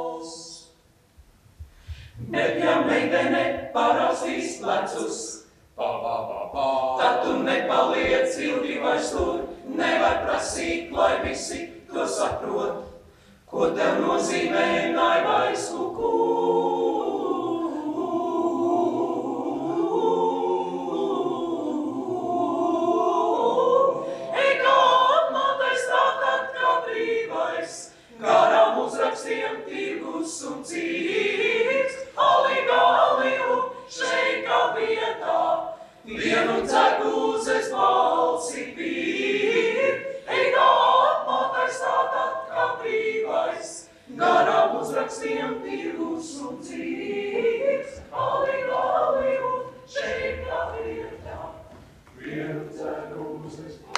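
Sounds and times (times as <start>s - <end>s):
choir singing a cappella: 0.0s - 0.8s, 1.8s - 53.9s.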